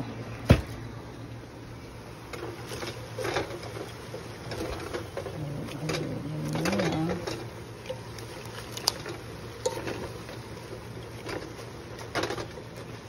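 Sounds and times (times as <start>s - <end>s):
greens rustling in a pan: 2.0s - 13.0s.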